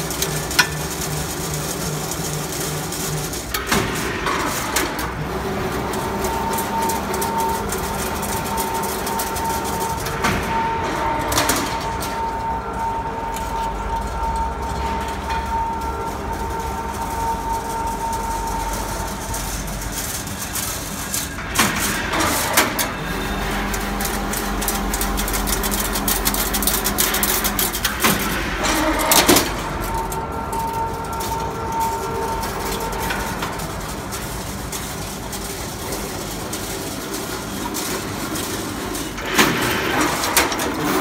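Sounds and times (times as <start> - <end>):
high machine whine: 0.0 - 41.0
machine mechanical drone: 0.0 - 41.0.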